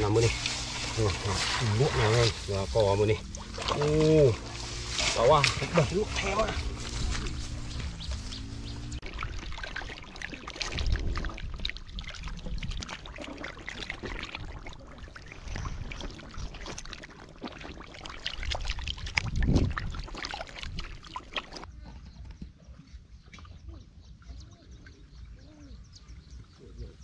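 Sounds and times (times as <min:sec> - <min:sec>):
muddy water splashing: 0:00.0 - 0:22.3.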